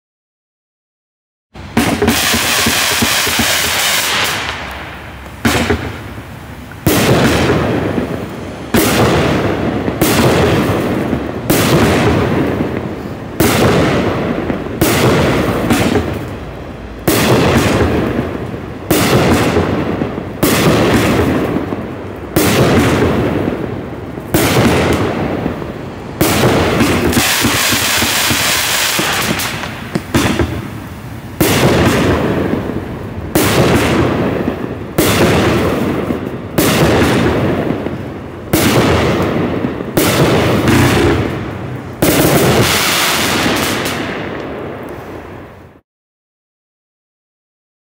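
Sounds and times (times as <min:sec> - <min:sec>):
firework cake bangs: 0:01.7 - 0:04.7, 0:05.4 - 0:06.1, 0:06.8 - 0:16.3, 0:17.1 - 0:25.6, 0:26.2 - 0:44.3.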